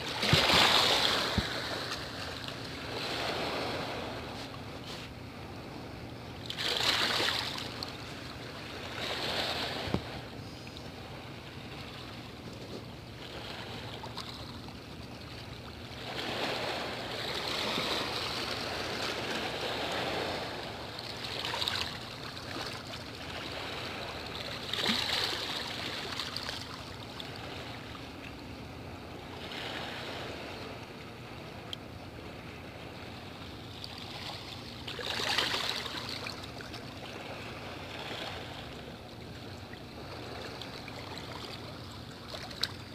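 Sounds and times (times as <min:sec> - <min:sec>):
faint steady low hum: 0:00.0 - 0:42.9
sea waves washing against shore: 0:00.0 - 0:42.9.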